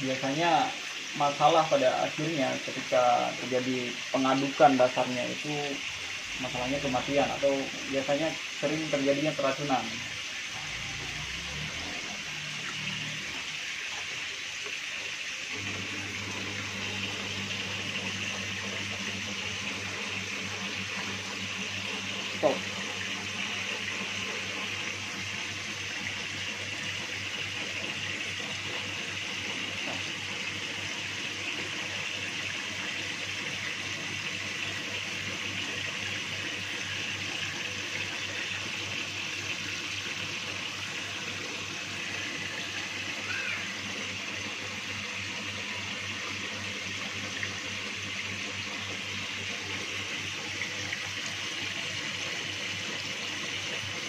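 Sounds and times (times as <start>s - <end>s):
water pouring and splashing: 0.0s - 54.0s.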